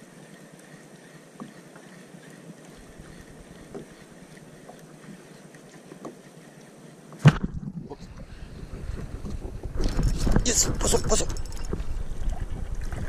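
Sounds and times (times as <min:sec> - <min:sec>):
water lapping on hull: 0:00.0 - 0:13.0
gear tapping against boat: 0:00.3 - 0:06.8, 0:09.0 - 0:13.0.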